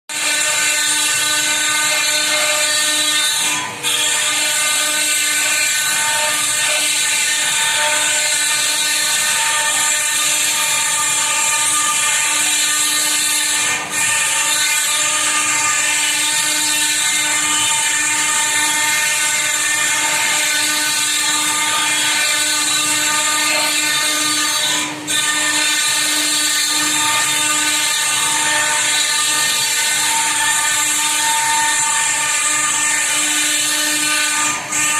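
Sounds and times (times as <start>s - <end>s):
router spindle whine: 0.1s - 34.9s.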